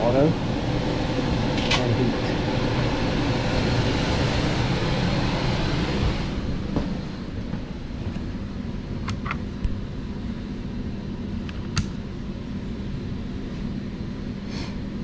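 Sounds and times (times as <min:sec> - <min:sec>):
blower motor humming: 0:00.0 - 0:15.0.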